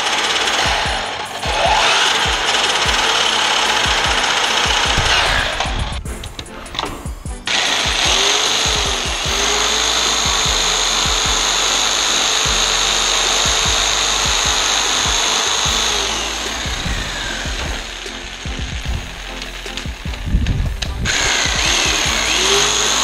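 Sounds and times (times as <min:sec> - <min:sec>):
miter saw motor whining: 0:00.0 - 0:06.0, 0:07.5 - 0:20.2, 0:21.0 - 0:23.0.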